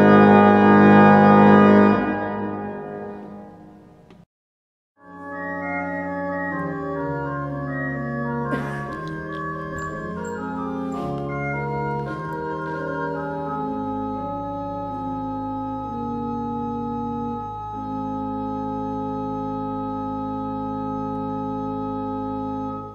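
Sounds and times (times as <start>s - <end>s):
church pipe organ chords: 0.0s - 3.9s, 5.0s - 22.9s.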